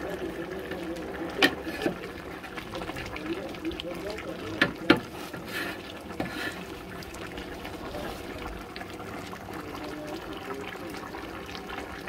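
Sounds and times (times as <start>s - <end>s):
water running and trickling: 0.0s - 12.0s.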